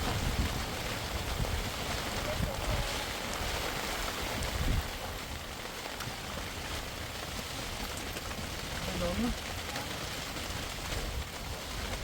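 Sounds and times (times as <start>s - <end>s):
steady rain falling: 0.0s - 12.0s
wind buffeting microphone: 0.0s - 12.0s.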